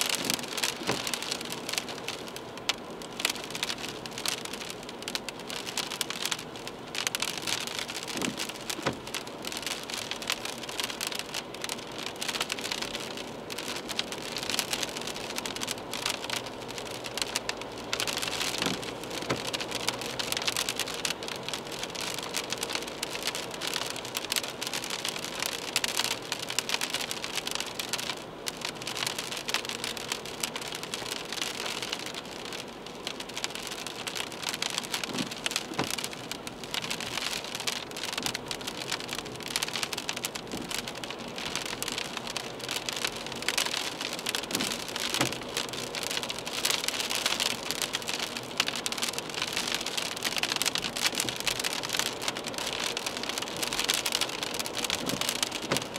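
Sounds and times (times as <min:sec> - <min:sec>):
heavy rain on car roof: 0:00.0 - 0:55.9.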